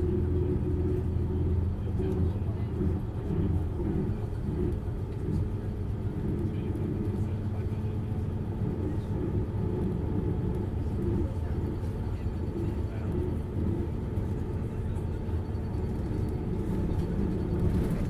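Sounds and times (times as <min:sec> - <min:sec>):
bus diesel engine droning: 0:00.0 - 0:18.0.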